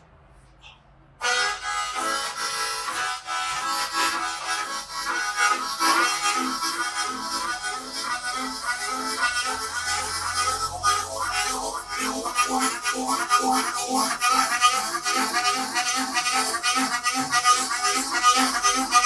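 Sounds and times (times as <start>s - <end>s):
harmonica chugging chords: 1.2s - 19.0s.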